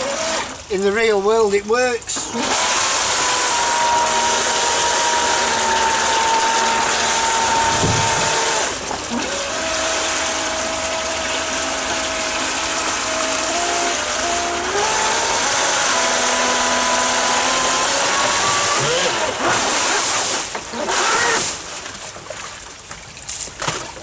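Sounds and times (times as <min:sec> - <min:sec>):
electric motor whining: 0:00.0 - 0:00.6, 0:02.2 - 0:21.6
water jet gushing and splashing: 0:00.0 - 0:24.0.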